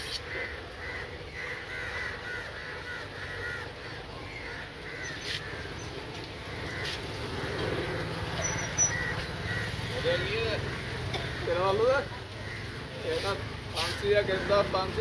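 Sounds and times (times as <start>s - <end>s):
crows cawing: 0.1s - 15.0s.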